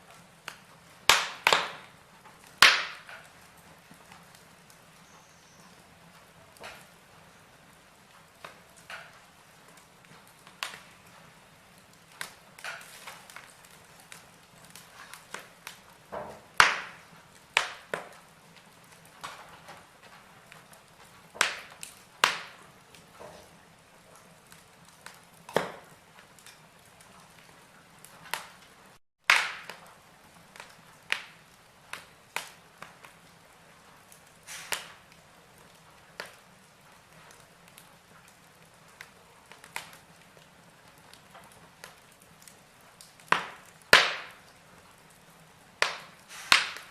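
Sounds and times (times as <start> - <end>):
faint fire hiss: 0.0 - 46.9
logs crackling in a fireplace: 0.0 - 46.9.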